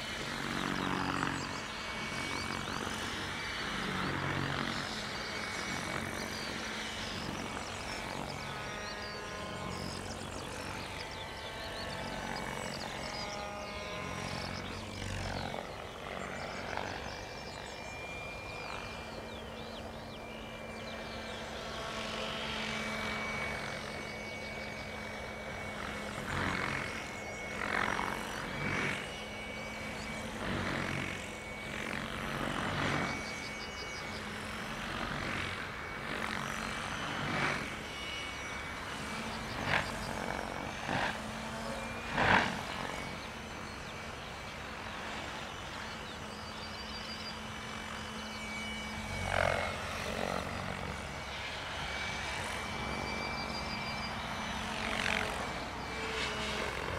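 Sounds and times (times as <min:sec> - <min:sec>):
motor and gear whine: 0:00.0 - 0:56.9
rotor blade noise surges: 0:00.0 - 0:56.9.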